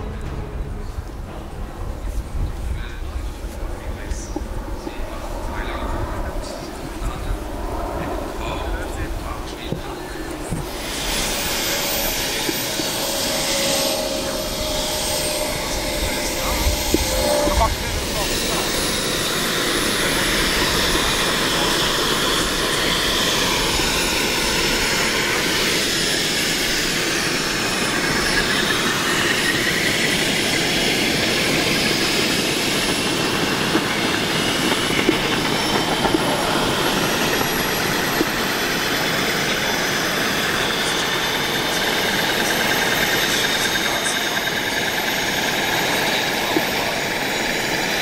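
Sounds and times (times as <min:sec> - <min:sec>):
helicopter rotors rushing: 0:00.0 - 0:48.0
turbine whine: 0:00.0 - 0:48.0.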